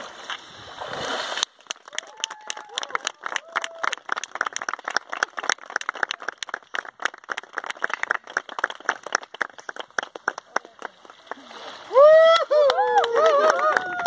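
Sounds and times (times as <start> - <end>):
people clapping: 1.4 - 14.0.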